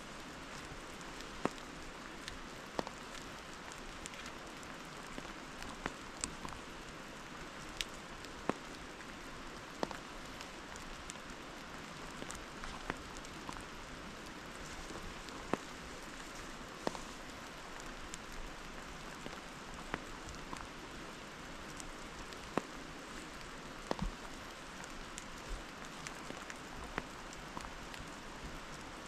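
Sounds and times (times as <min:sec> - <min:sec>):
sharp rain ticks: 0:00.0 - 0:29.0
steady rain hiss: 0:00.0 - 0:29.0.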